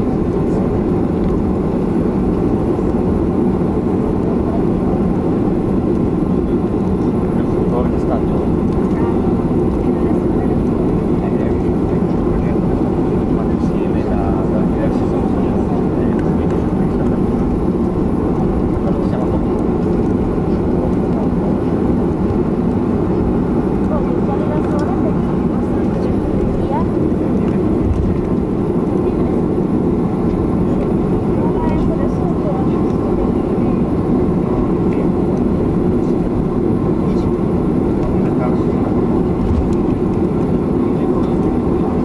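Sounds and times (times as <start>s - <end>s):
aircraft low rumble: 0.0s - 42.0s.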